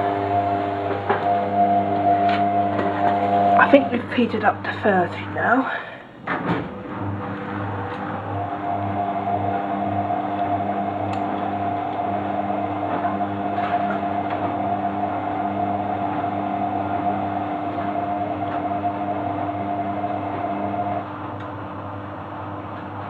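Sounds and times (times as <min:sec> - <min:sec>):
low hum of spinning drum: 0:00.0 - 0:23.0
washing machine motor whine: 0:00.0 - 0:23.0.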